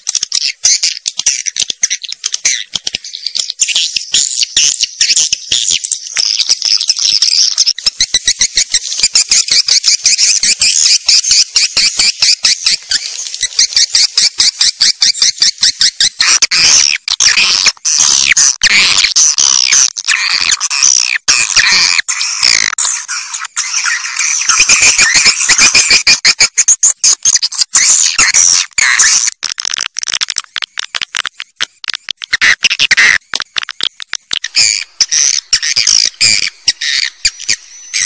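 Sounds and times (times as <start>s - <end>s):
rapid bird clicks: 0.0s - 22.8s, 24.5s - 37.6s
high twittering chirps: 0.0s - 38.0s
sliding bird chirps: 0.0s - 38.0s.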